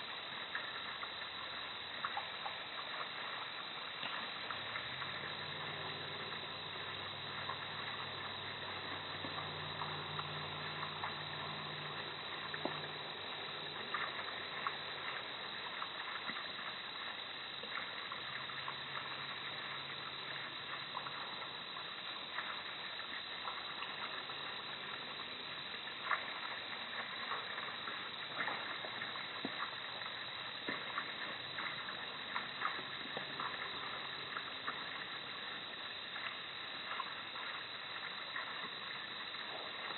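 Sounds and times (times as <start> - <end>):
faint low hum: 0.0 - 39.9
outdoor background hiss: 0.0 - 39.9.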